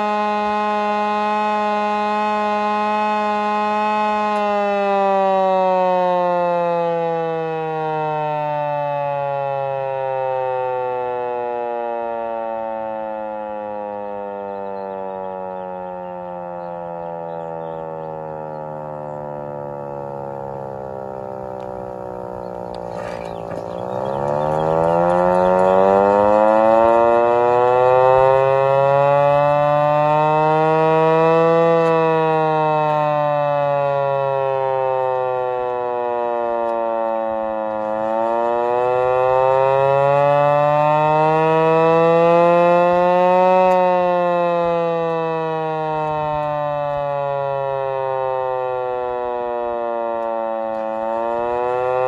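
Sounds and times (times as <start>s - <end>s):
hand-crank siren wailing: 0.0s - 52.0s.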